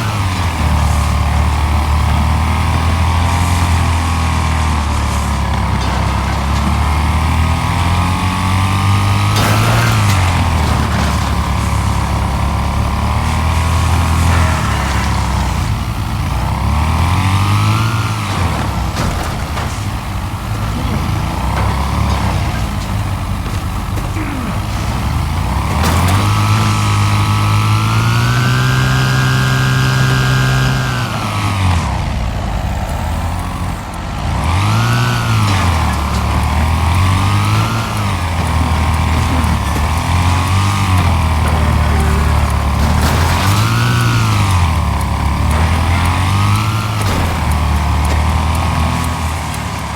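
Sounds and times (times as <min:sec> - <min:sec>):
lawnmower engine running: 0:00.0 - 0:49.9.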